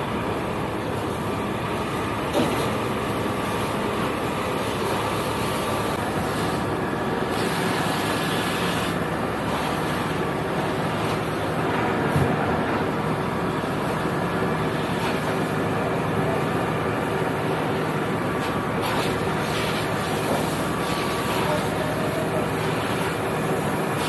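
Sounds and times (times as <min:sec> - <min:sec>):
fire engine pump running: 0:00.0 - 0:24.0
water streaming from fire hoses: 0:00.0 - 0:24.0.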